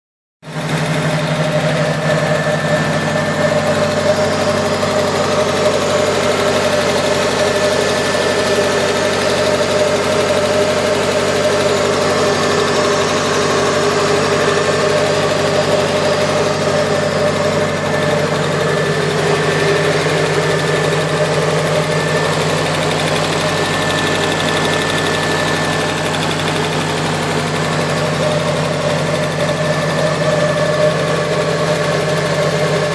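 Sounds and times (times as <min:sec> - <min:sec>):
car engine idling: 0:00.4 - 0:32.9
engine ticking: 0:00.4 - 0:32.9.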